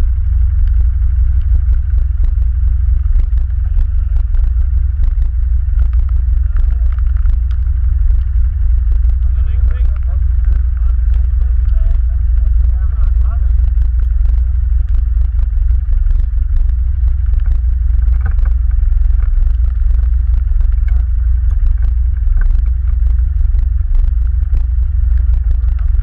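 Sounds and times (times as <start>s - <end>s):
atv engine rumbling: 0.0s - 26.0s
knocks and rattles over bumps: 0.0s - 26.0s.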